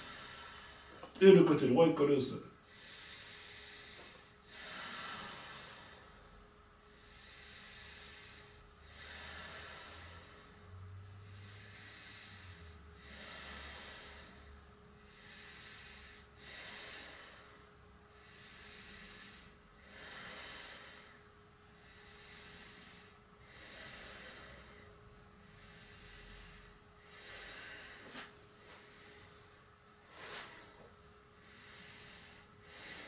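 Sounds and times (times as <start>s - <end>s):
person breathing deeply: 0.0s - 1.2s, 2.6s - 33.0s.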